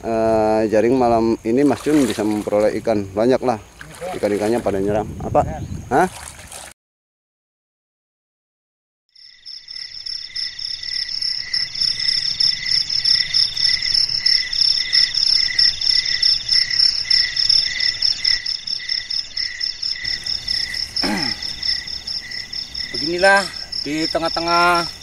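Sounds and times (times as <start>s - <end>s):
insects trilling: 0.0s - 6.7s, 9.2s - 25.0s.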